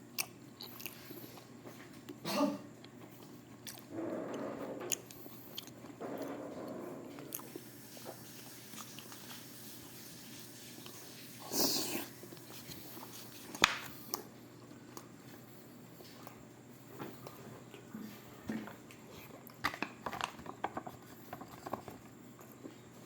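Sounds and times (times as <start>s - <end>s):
person chewing food: 0.1s - 2.2s, 2.8s - 3.9s, 4.9s - 6.3s, 7.1s - 16.4s, 17.2s - 22.9s.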